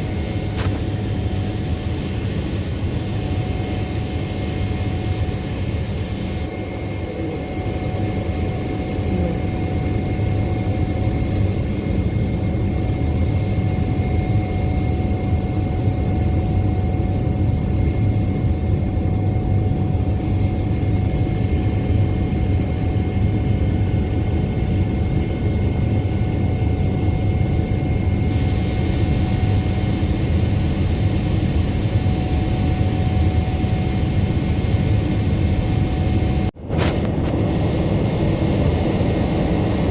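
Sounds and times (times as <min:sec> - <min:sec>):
faint constant whining tones: 0:00.0 - 0:39.9
jet engines and airflow rumble: 0:00.0 - 0:39.9.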